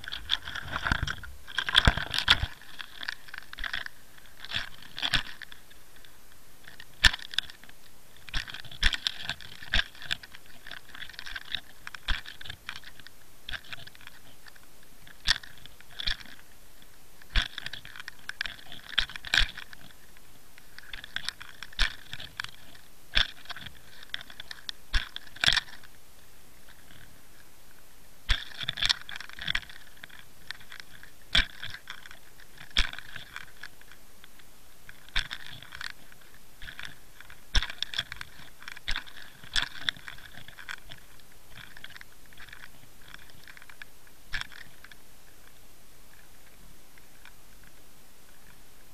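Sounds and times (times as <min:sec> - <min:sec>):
underwater crackling: 0:00.0 - 0:26.0, 0:26.6 - 0:48.6.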